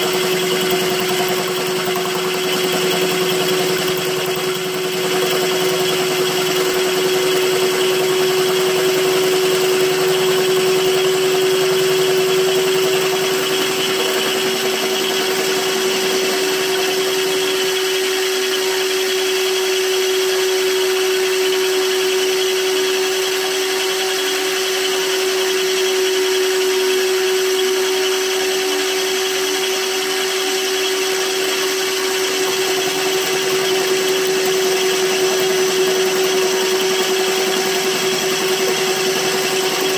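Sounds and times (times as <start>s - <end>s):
boring machine humming: 0.0s - 39.9s.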